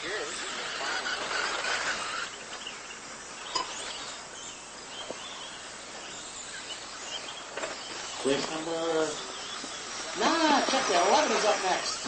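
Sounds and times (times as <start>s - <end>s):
electric motors whining: 0.0s - 12.0s
steady background hiss: 0.0s - 12.0s.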